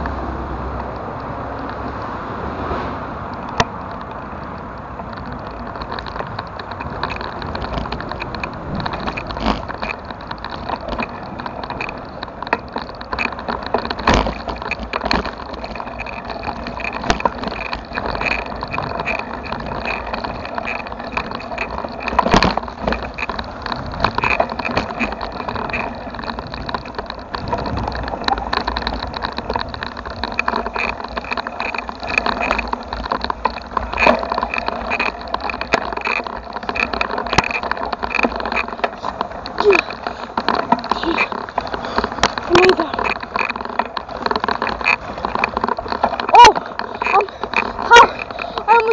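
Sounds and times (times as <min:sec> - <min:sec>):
small clicks and knocks: 0:00.0 - 0:02.2, 0:03.3 - 0:48.9
bicycle jolts: 0:00.0 - 0:48.9
bicycle tyres rattling on dirt: 0:00.0 - 0:48.9.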